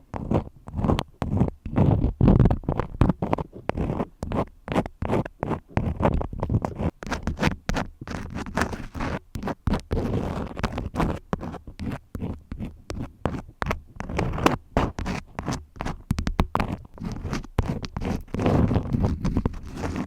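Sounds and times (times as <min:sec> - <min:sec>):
crayons scratching: 0:00.0 - 0:20.0.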